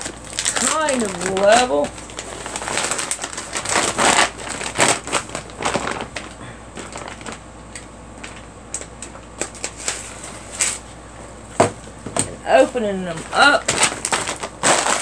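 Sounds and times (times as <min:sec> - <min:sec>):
plastic bags crinkling: 0:00.0 - 0:11.0, 0:12.5 - 0:15.0.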